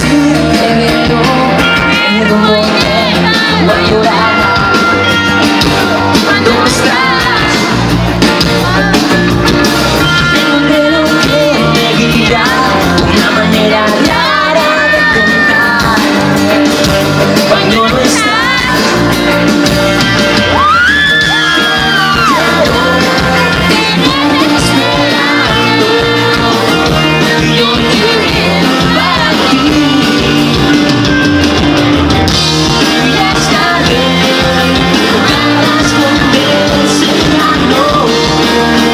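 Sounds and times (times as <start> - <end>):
live band playing: 0.0 - 38.9
person singing: 0.0 - 38.9.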